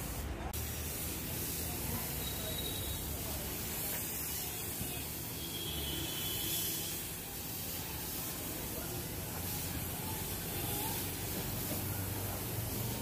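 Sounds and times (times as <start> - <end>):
spray gun hissing: 0.0 - 13.0.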